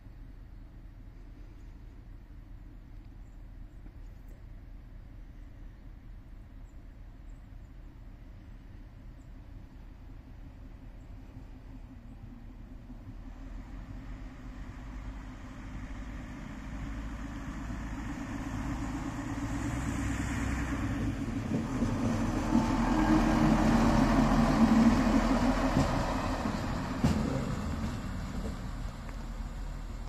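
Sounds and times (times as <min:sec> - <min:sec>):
diesel railbus passing: 0:04.5 - 0:30.0.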